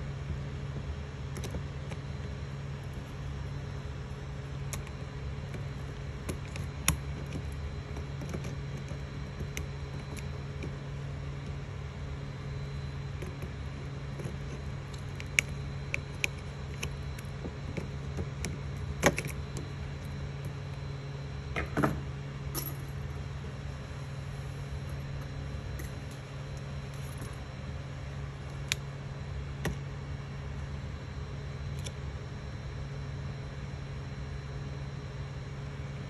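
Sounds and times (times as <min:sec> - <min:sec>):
three d printer humming: 0:00.0 - 0:34.3.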